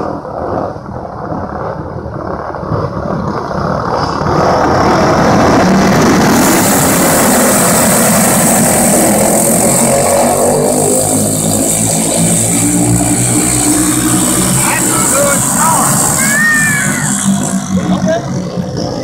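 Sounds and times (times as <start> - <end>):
racing kart engines at full throttle: 0.0 - 19.0.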